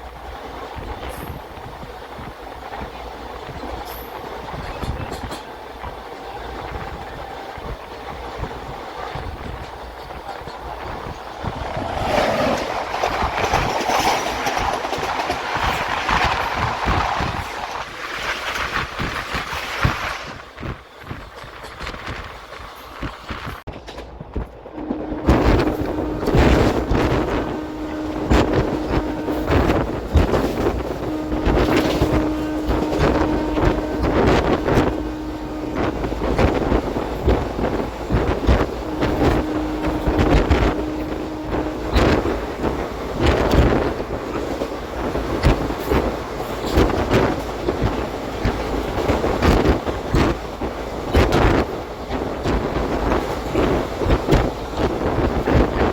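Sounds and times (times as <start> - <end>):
wind buffeting microphone: 0.0 - 55.9
wheel clatter over rail joints: 0.8 - 35.1, 35.9 - 55.9
train rushing past: 8.2 - 55.9.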